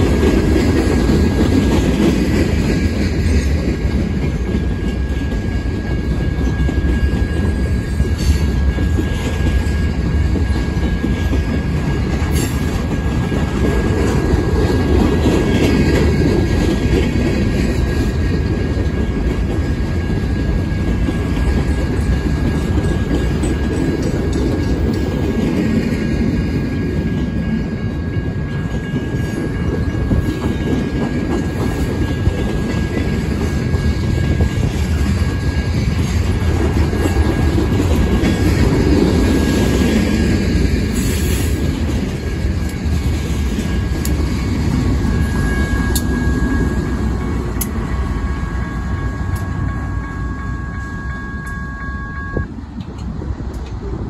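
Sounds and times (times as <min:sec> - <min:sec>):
diesel locomotive passing: 0:00.0 - 0:54.0
freight train wheels rumbling: 0:00.0 - 0:54.0.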